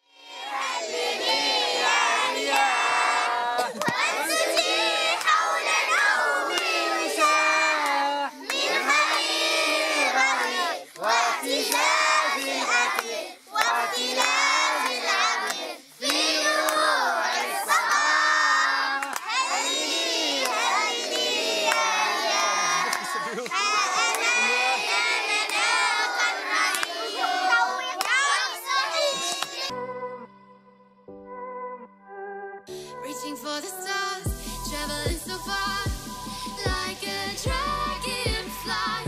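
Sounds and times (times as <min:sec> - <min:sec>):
children chanting a song: 0:00.0 - 0:29.8, 0:36.4 - 0:39.0.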